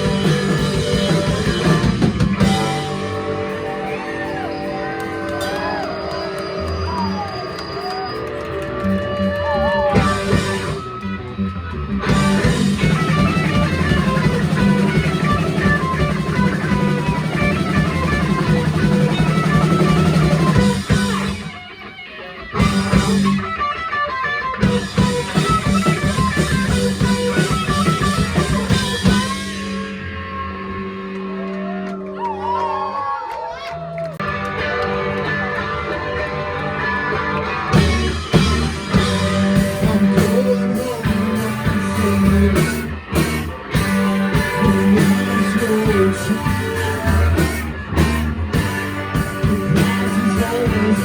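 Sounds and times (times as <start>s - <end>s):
live rock band playing: 0.0s - 31.8s, 34.2s - 51.0s.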